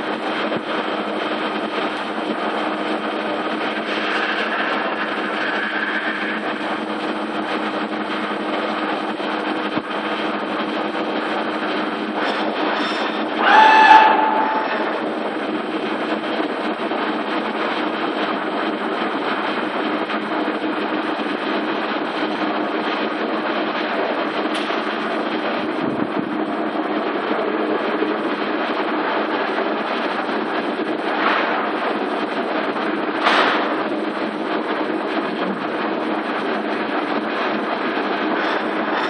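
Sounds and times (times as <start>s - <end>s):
loud spindle whine: 0.0s - 27.6s, 28.2s - 39.0s
milling machine running with hum: 0.0s - 39.0s.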